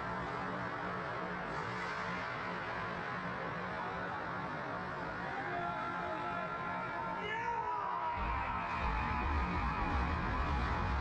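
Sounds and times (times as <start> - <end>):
arena crowd noise: 0.0 - 11.0.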